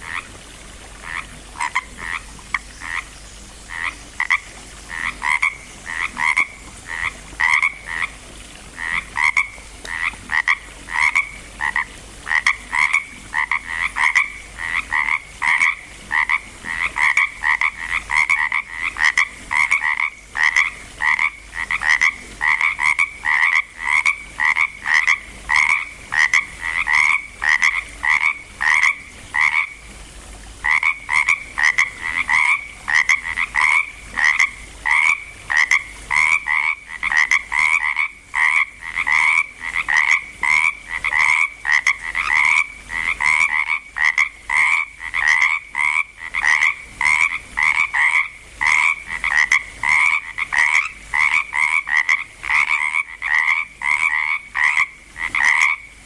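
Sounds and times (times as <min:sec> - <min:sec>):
tree frogs calling: 0:01.0 - 0:08.2, 0:08.8 - 0:29.8, 0:30.6 - 0:56.0.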